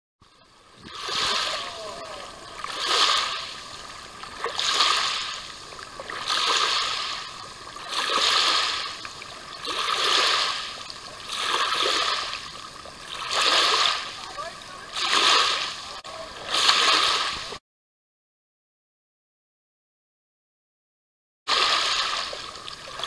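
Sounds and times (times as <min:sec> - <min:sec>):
small waves washing on shore: 0:00.2 - 0:17.6, 0:21.5 - 0:23.0.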